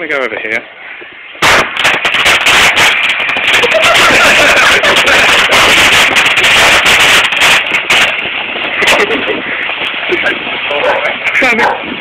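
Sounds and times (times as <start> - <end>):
firework crackling and popping: 0.0 - 12.0.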